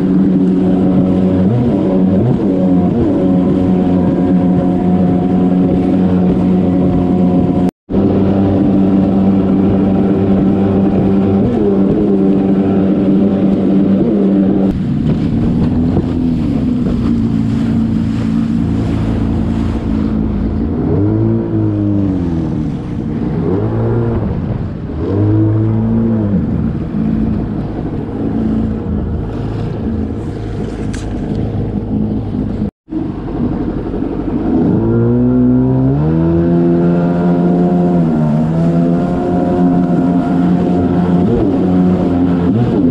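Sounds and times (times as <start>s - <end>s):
jet ski engine revving: 0.0s - 42.9s
wind noise: 0.0s - 42.9s.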